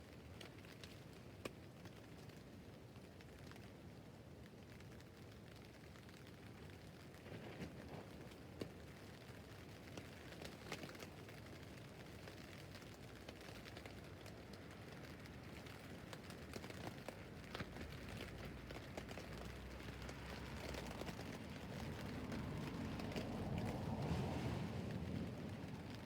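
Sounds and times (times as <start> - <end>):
rain on a tent roof: 0.0 - 26.0.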